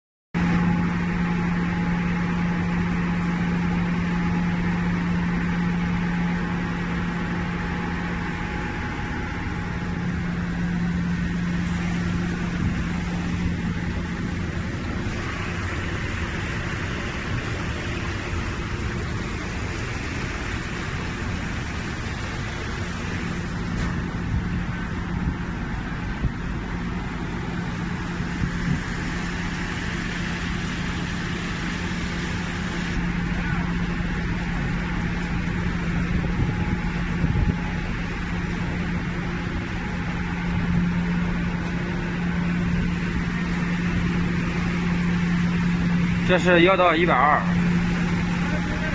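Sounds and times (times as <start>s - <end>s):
machinery humming: 0.4s - 48.9s
mechanical water-like wash: 0.4s - 48.9s.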